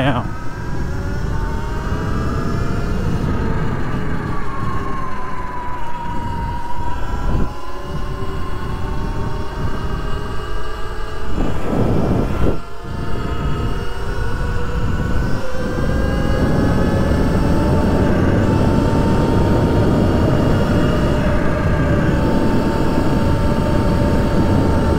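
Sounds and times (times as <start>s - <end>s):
electric motor whining: 0.0s - 24.9s
wind rushing over microphone: 0.0s - 24.9s.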